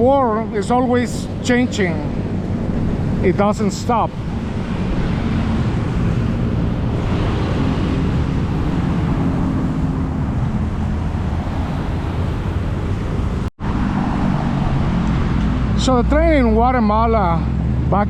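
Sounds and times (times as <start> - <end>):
road traffic rumble: 0.0 - 18.0
wind noise on microphone: 0.0 - 18.0.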